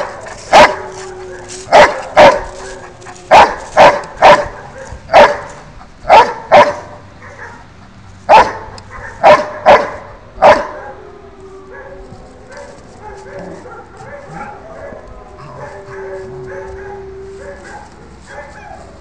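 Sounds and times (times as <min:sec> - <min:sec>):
dog barking: 0:00.0 - 0:07.7, 0:08.3 - 0:11.0, 0:11.7 - 0:18.9.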